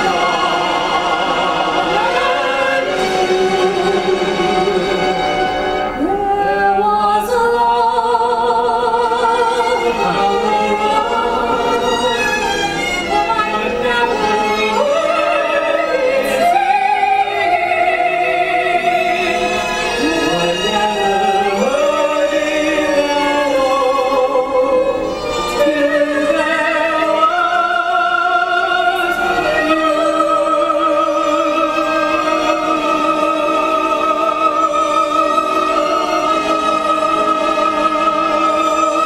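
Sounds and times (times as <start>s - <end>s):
musical accompaniment: 0.0s - 39.0s
operatic singing with vibrato: 0.0s - 39.0s.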